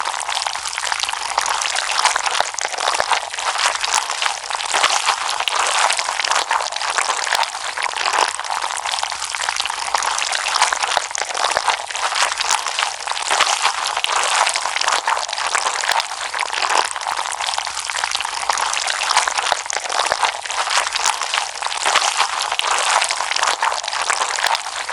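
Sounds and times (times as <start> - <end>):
slime squeezed wet crackling: 0.0 - 24.9.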